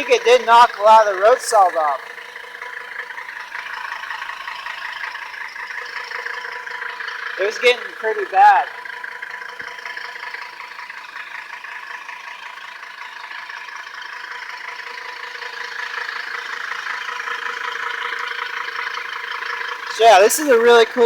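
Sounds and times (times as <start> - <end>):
car running with whine: 0.0 - 21.0.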